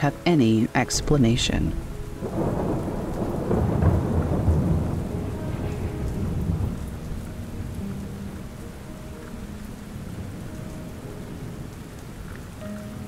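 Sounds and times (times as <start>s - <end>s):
steady rain: 0.0s - 13.0s
thunder rolling: 1.7s - 12.6s.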